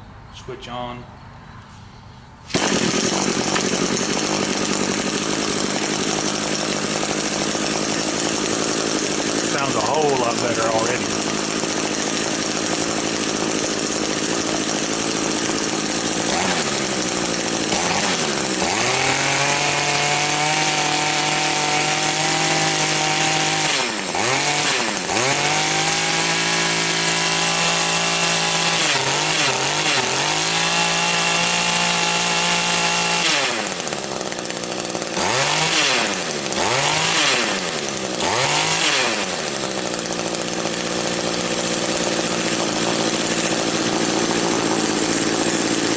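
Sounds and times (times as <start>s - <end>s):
string trimmer engine revving: 2.5s - 45.9s.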